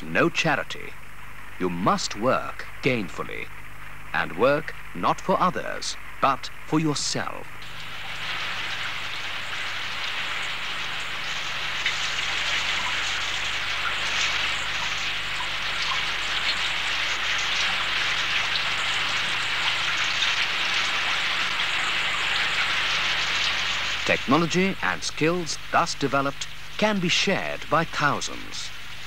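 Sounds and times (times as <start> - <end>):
water hissing: 0.0 - 29.0.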